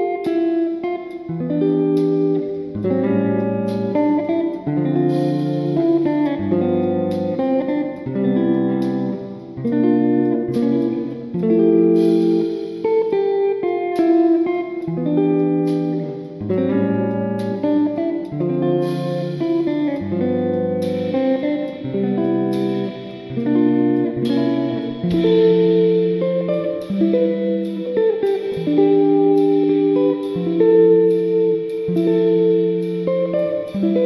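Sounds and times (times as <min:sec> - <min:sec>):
plucked guitar music: 0:00.0 - 0:34.0.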